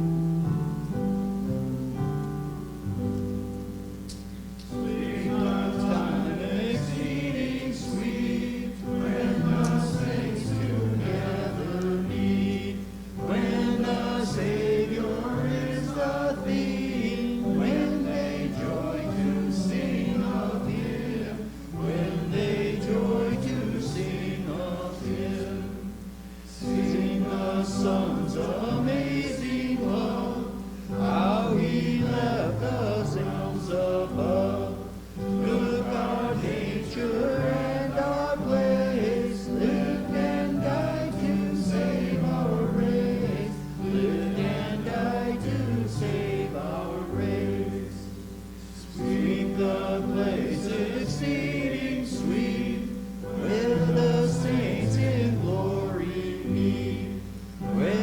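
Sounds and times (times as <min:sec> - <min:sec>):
congregation singing a hymn: 0:00.0 - 0:58.0
keyboard accompaniment: 0:00.0 - 0:58.0.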